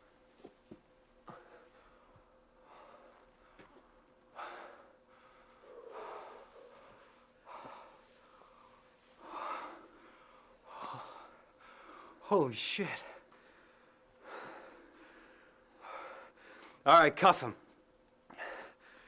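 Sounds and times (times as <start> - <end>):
man breathing heavily and gasping: 1.2 - 16.8, 18.3 - 19.0.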